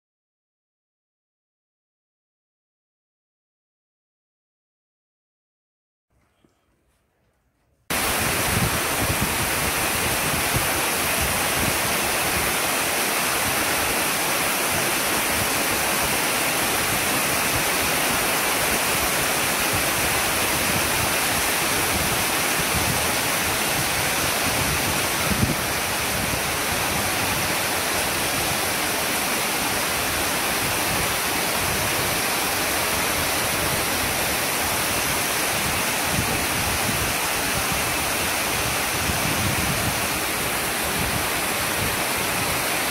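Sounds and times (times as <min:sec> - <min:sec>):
rain hissing: 0:07.9 - 0:42.9.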